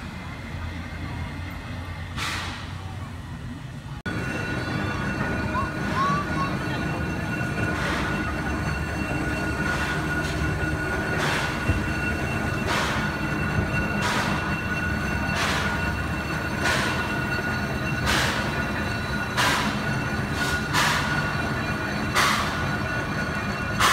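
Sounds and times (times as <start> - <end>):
steam puffs hissing: 0.0 - 3.0, 4.5 - 23.9
steady high squeal: 4.1 - 23.9.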